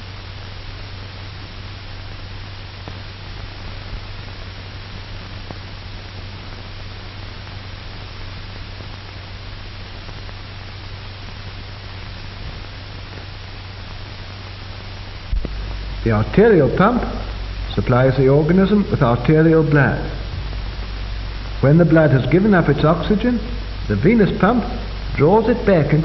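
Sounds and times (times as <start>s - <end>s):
film soundtrack hiss: 0.0s - 26.0s
low steady hum: 0.0s - 26.0s.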